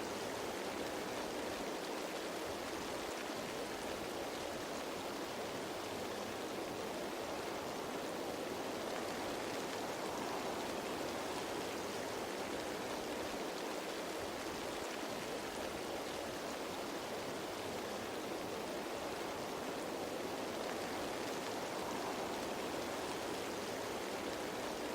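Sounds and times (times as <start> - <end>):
rain falling on leaves: 0.0 - 24.9.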